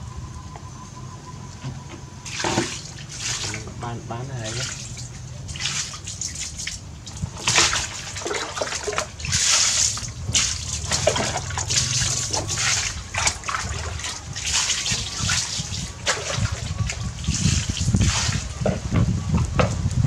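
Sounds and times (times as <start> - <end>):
low steady hum: 0.0 - 20.0
water sloshing in plastic basin: 2.3 - 18.9.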